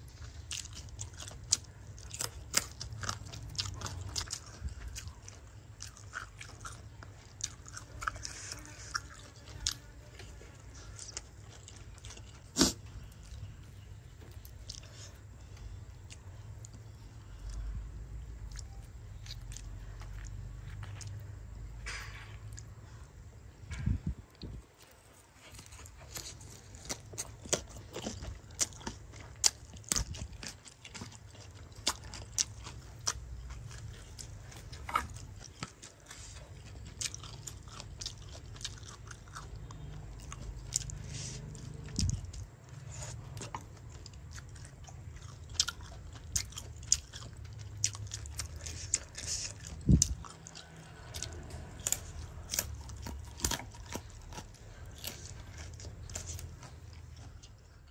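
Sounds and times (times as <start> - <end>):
crunchy chewing: 0.0 - 57.9
steady low hum: 0.0 - 57.9.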